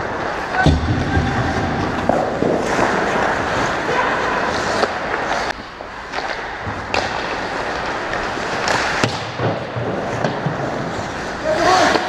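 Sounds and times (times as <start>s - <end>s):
skate blades scraping ice: 0.0s - 12.0s.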